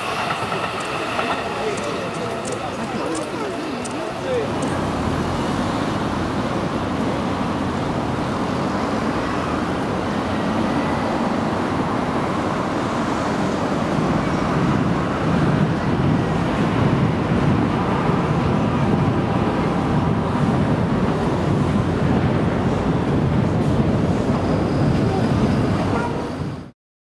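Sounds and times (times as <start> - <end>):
electric train rumble and hiss: 0.0 - 26.7.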